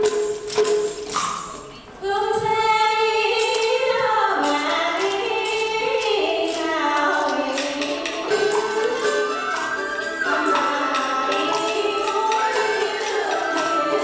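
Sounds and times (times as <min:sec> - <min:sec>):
women singing long sliding notes: 0:02.0 - 0:14.0.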